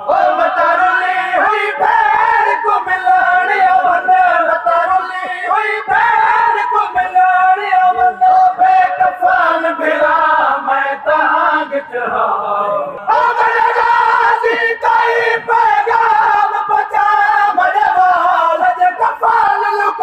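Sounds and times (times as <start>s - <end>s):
lead reciter chanting: 0.0s - 20.0s
men chanting in unison: 0.0s - 20.0s.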